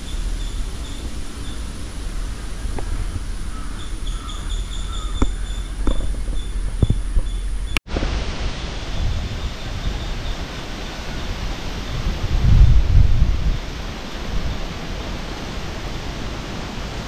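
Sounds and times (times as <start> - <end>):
wind hiss on microphone: 0.0 - 17.0
wind rumble: 0.0 - 17.0.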